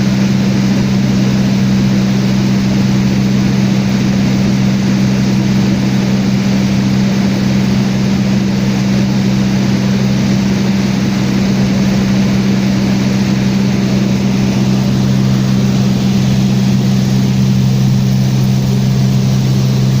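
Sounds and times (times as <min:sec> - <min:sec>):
small airplane engine droning: 0:00.0 - 0:20.0.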